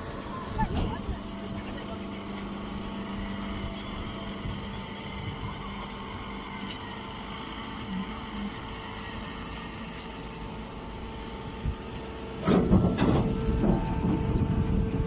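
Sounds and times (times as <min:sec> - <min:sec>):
baler motor humming: 0:00.0 - 0:15.0.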